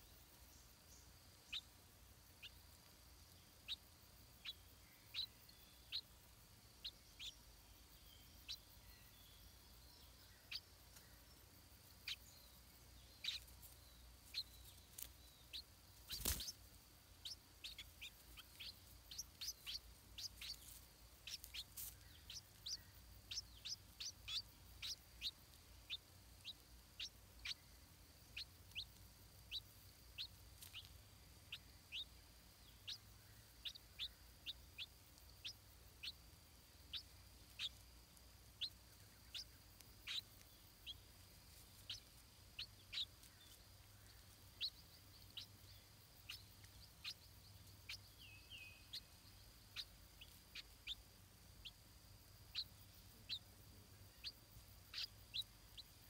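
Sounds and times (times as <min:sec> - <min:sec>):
small bird chirping: 0:00.0 - 0:56.0.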